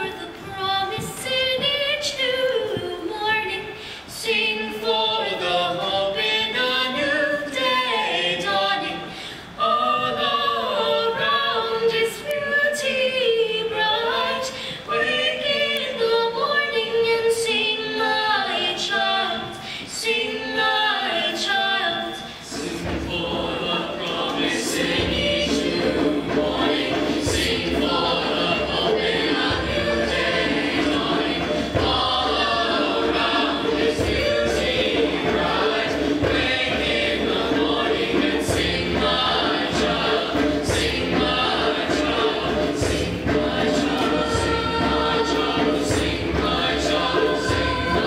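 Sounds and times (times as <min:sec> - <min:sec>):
choir singing: 0:04.1 - 0:48.0.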